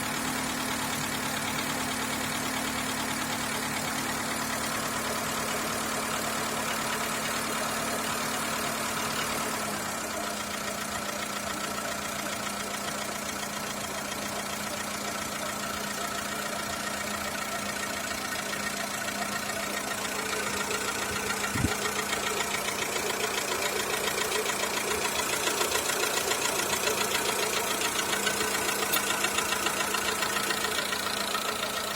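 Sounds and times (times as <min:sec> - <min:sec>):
car engine idling with knock: 0:00.0 - 0:31.9.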